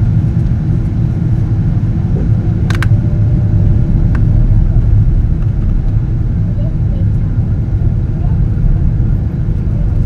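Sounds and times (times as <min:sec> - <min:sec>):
aircraft engine rumble in cabin: 0:00.0 - 0:10.0.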